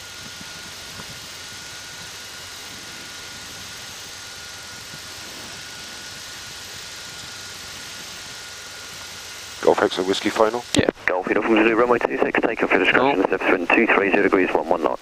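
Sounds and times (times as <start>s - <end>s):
aircraft engine and propeller drone: 0.0s - 15.0s.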